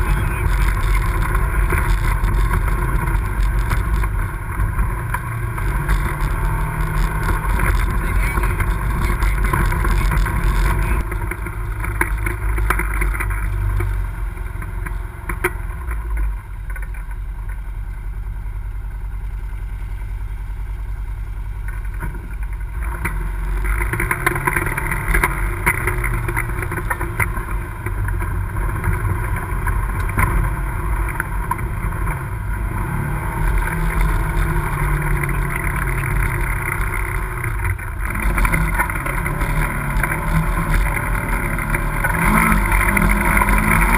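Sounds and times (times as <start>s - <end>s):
off-road vehicle engine running: 0.0s - 43.9s.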